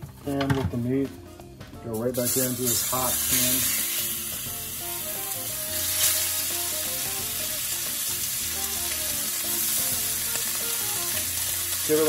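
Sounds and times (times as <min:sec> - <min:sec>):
background music: 0:00.0 - 0:12.0
meat sizzling in a skillet: 0:02.1 - 0:12.0.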